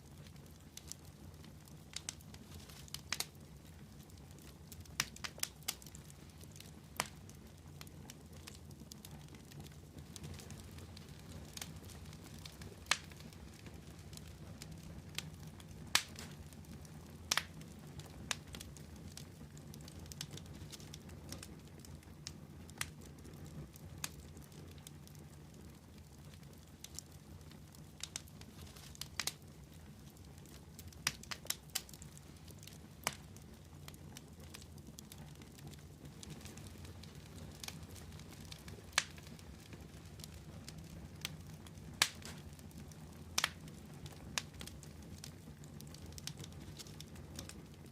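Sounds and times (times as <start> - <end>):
fire crackling and popping: 0.0 - 47.9
low rumble of flames: 0.0 - 47.9.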